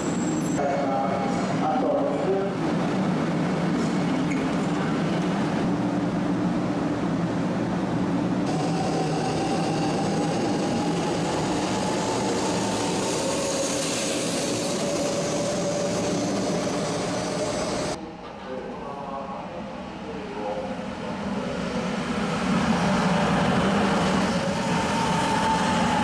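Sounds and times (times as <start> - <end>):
train humming and rushing: 0.0 - 26.0.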